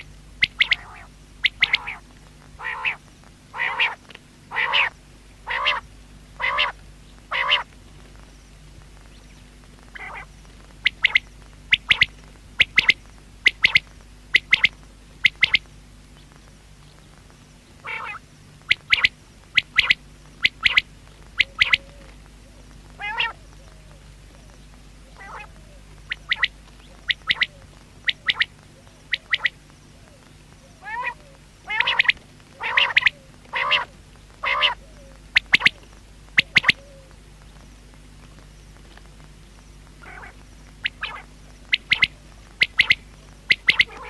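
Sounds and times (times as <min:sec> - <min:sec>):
quail calling: 0:00.0 - 0:07.7, 0:09.9 - 0:15.7, 0:17.8 - 0:37.2, 0:40.0 - 0:44.0.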